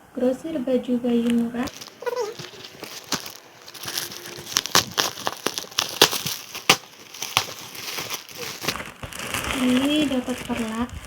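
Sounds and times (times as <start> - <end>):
packaging crinkling: 1.1 - 11.0.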